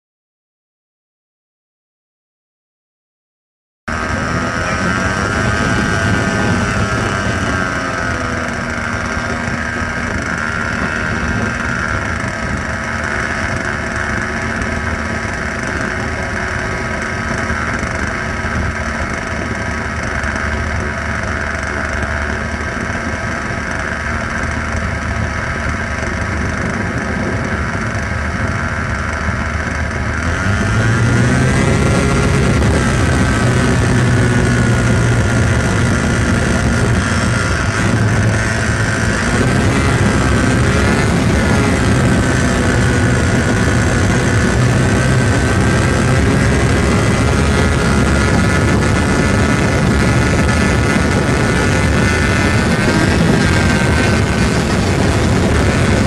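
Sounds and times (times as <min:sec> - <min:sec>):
model plane engine idling: 0:03.9 - 0:56.0.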